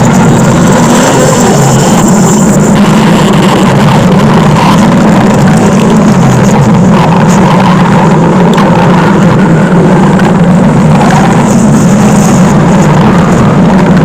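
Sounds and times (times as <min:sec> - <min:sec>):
cartoon stomach growl: 0:00.0 - 0:14.0.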